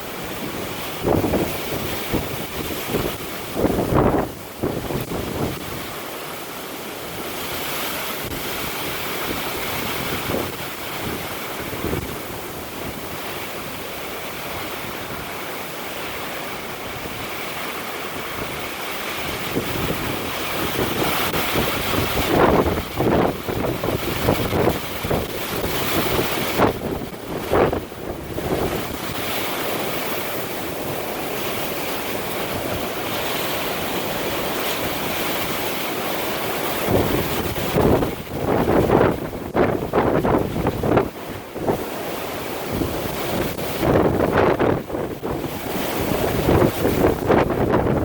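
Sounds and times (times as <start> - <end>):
gusty wind buffeting microphone: 0.0 - 6.4, 7.0 - 48.0.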